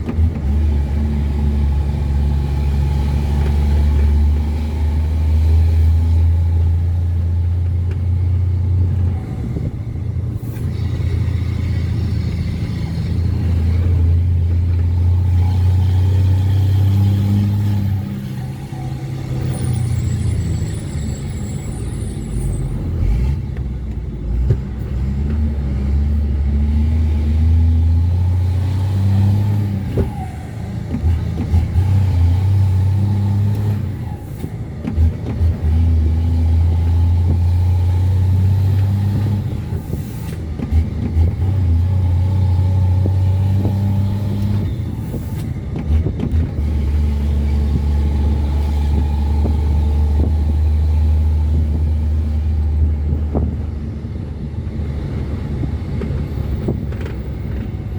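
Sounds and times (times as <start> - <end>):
diesel truck engine under load: 0.0 - 57.9.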